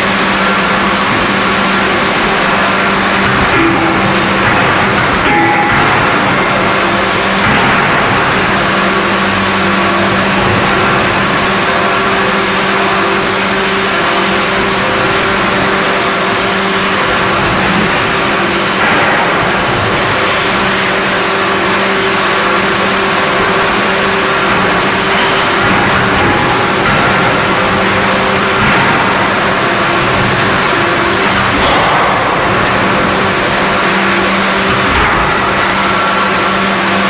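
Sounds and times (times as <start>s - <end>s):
industrial machinery humming: 0.0s - 37.0s
hiss: 6.6s - 37.0s.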